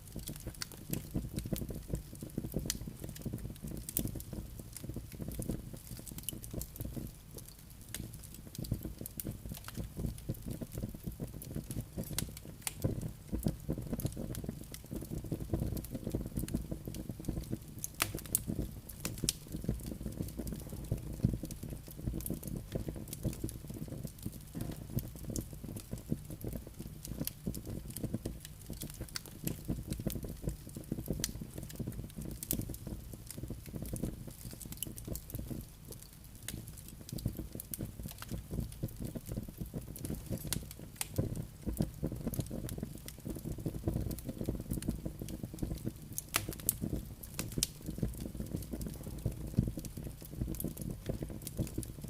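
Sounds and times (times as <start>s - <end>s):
fire crackling and popping: 0.0s - 52.0s
fire low rumble: 0.0s - 52.0s.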